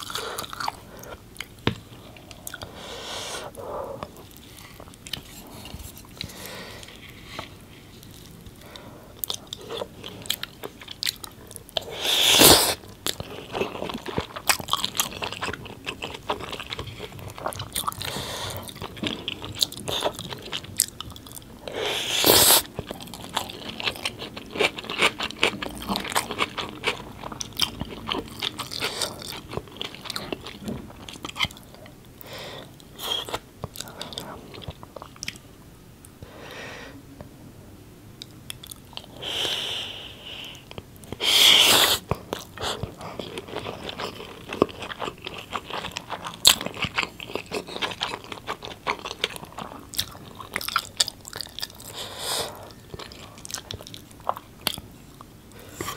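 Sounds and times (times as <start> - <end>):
close chewing with mouth clicks: 0.0 - 2.7, 4.0 - 35.4, 40.4 - 55.9.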